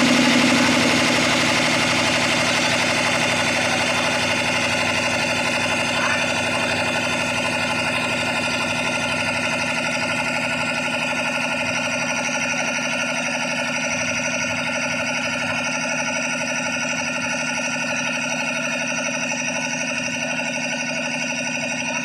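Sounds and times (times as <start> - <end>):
air compressor running: 0.0 - 22.0.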